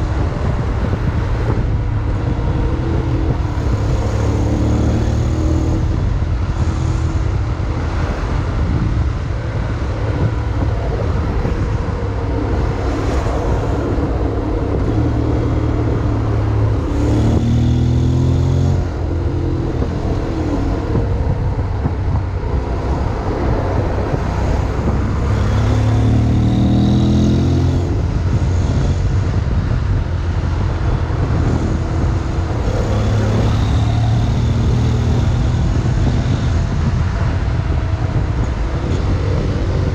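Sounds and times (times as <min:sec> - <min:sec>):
road noise: 0:00.0 - 0:39.9
wind noise: 0:00.0 - 0:39.9.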